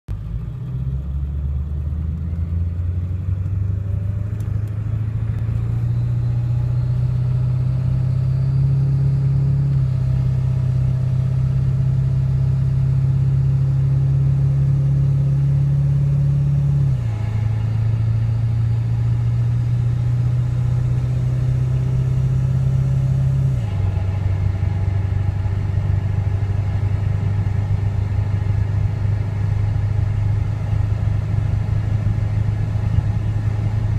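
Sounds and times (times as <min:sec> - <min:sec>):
diesel engine drone: 0:00.1 - 0:33.9.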